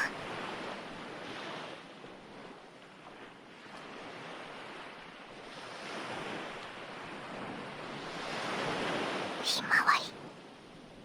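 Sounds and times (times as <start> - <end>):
ocean waves washing onto shore: 0.0 - 11.0.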